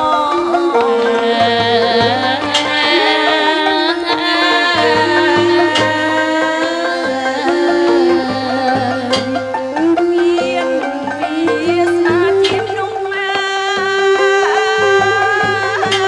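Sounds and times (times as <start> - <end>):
drum strokes: 0.0 - 16.0
traditional ensemble melody: 0.0 - 16.0.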